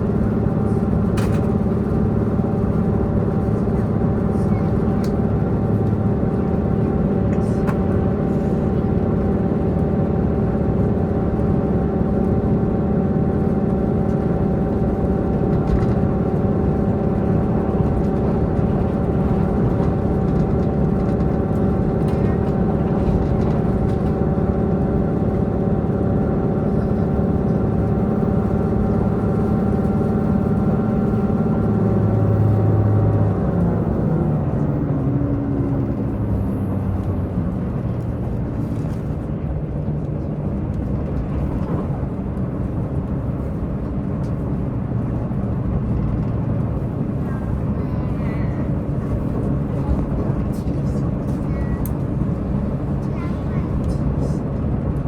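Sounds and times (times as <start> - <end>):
train diesel engine running: 0.0 - 55.0
train wheels rumbling on track: 0.0 - 55.0.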